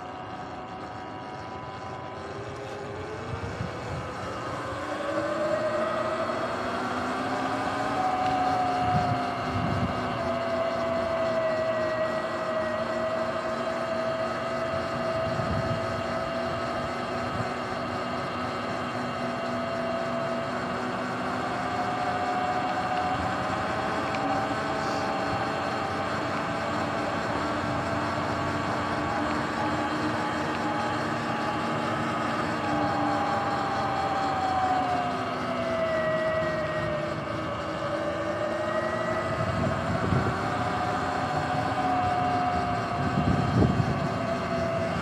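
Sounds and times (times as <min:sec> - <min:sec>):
electric motor whine: 0:00.0 - 0:45.0.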